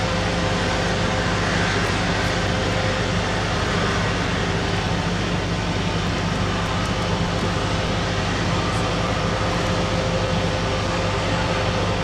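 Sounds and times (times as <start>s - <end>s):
jet engines at taxi power: 0.0s - 12.0s.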